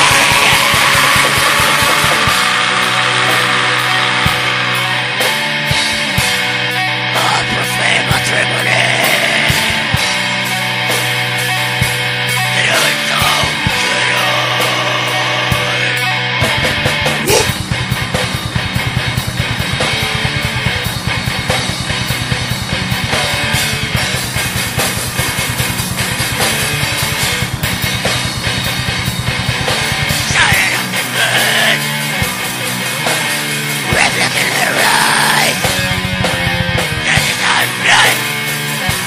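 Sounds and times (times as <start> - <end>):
distorted electric guitars: 0.0 - 39.0
fast dense drumming: 0.0 - 39.0.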